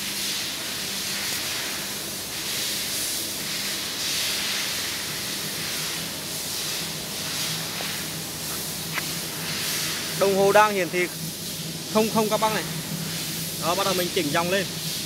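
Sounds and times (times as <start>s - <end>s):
cooling fan hiss: 0.0s - 15.0s.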